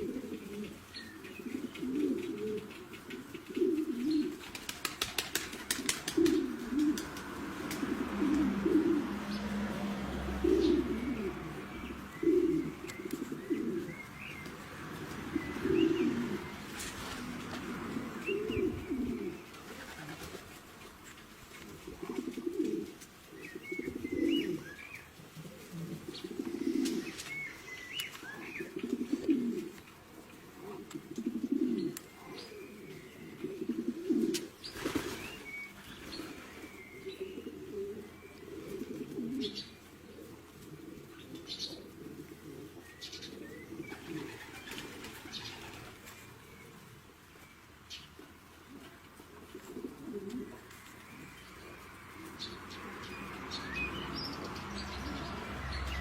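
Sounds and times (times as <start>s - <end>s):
birds chirping: 0.0s - 56.0s
pigeons cooing: 0.0s - 56.0s.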